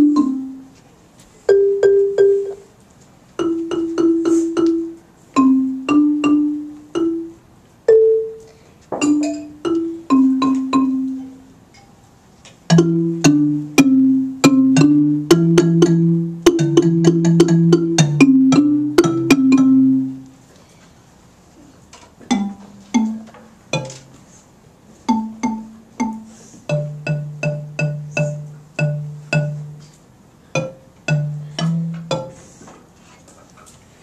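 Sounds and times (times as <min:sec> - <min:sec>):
bass xylophone notes: 0:00.0 - 0:00.8, 0:01.5 - 0:02.7, 0:03.4 - 0:11.7, 0:12.7 - 0:20.4, 0:22.3 - 0:24.2, 0:25.1 - 0:32.6.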